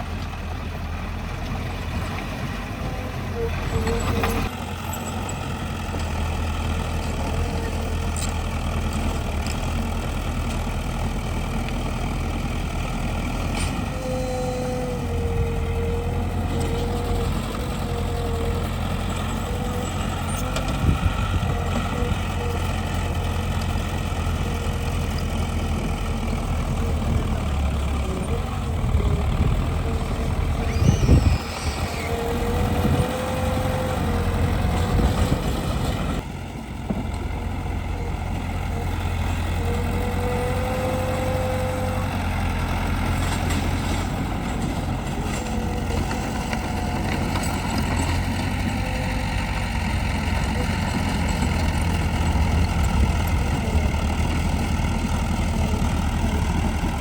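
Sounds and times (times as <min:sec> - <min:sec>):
diesel engine running: 0:00.0 - 0:57.0
engine whine: 0:00.0 - 0:57.0.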